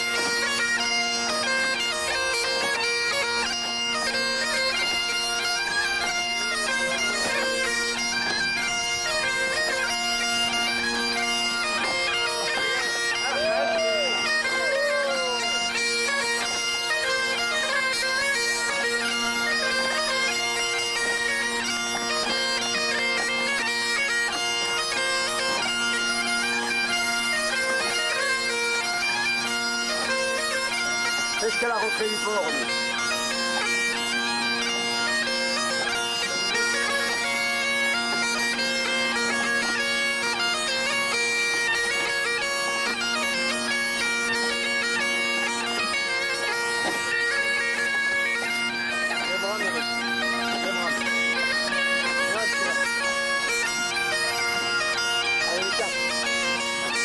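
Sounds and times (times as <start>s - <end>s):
bagpipe and bombarde tune: 0.0s - 57.0s
bagpipe drones: 0.0s - 57.0s.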